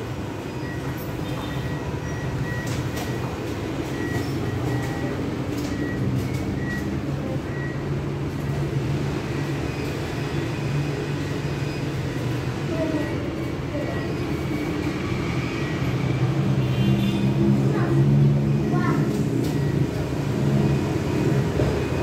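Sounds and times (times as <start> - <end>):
faint electronic beeps: 0.4 - 3.3, 3.9 - 16.2, 18.0 - 22.0.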